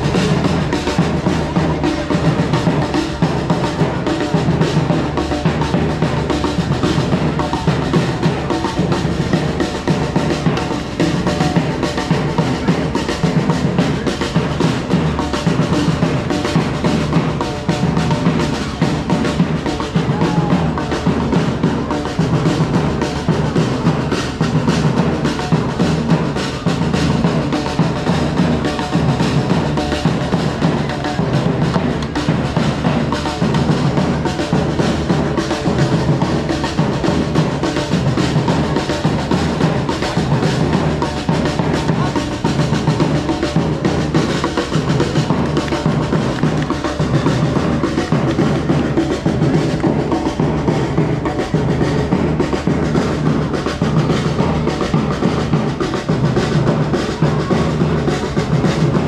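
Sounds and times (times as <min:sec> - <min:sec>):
drums playing steady beat: 0:00.0 - 0:59.0.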